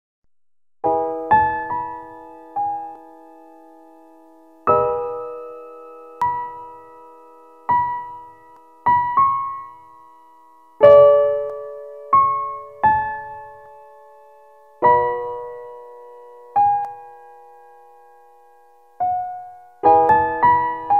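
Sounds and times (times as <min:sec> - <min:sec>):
slow sparse piano notes: 0:00.8 - 0:20.9.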